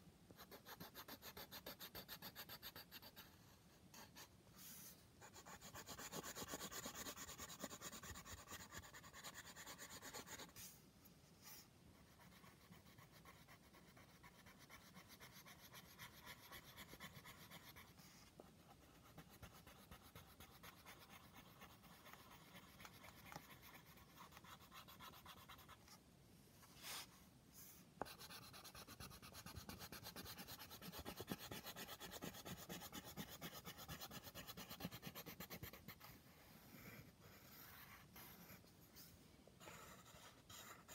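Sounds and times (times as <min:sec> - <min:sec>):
pencil scratching on paper: 0:00.4 - 0:10.8, 0:11.4 - 0:26.0, 0:28.0 - 0:40.9.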